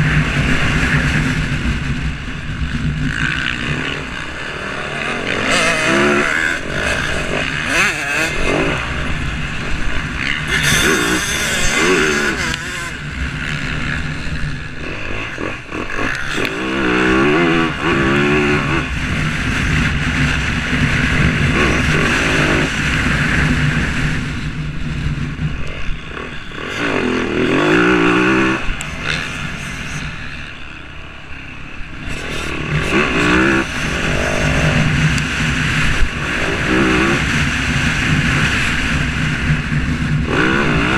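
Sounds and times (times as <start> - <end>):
motorcycle engines revving and passing: 0.0 - 40.9.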